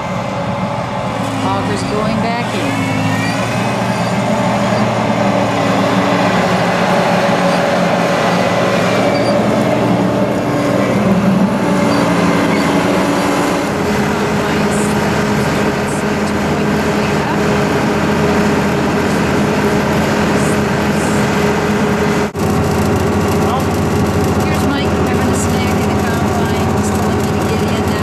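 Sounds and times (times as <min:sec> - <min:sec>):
combine harvester droning: 0:00.0 - 0:28.0.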